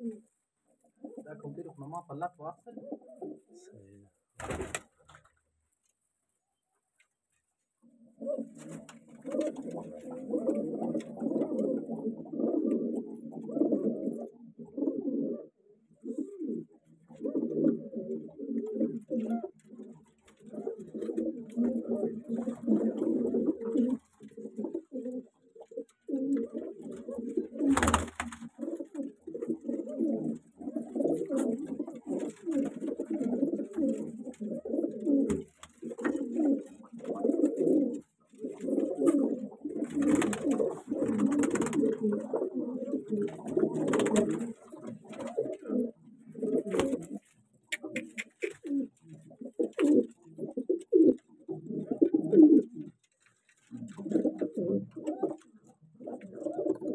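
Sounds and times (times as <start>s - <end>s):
pigeons cooing: 0.0s - 3.7s, 8.0s - 56.9s.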